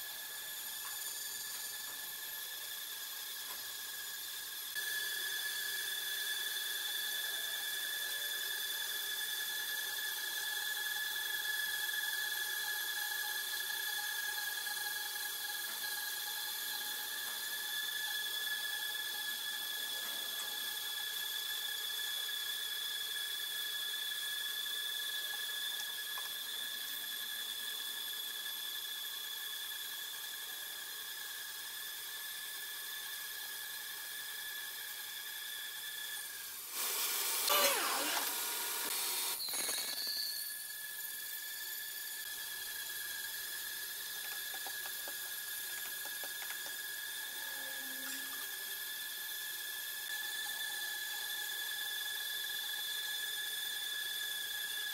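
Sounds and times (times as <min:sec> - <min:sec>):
band saw blade whining in wood: 0:00.0 - 0:54.9.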